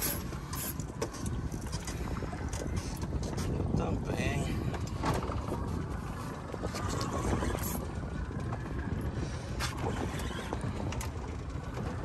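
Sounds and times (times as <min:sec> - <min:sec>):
boat rumbling: 0:00.0 - 0:12.0.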